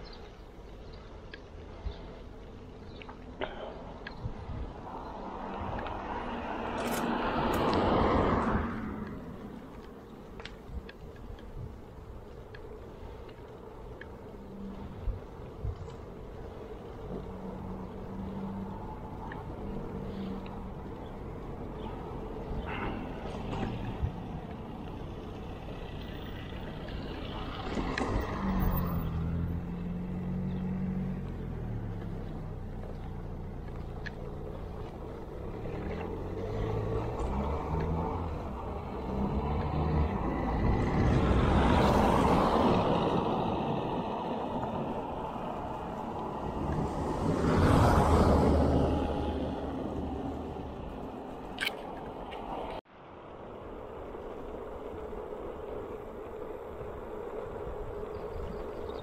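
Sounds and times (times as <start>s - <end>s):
motor vehicles passing: 0.0s - 59.0s
wind and road noise: 0.0s - 59.0s.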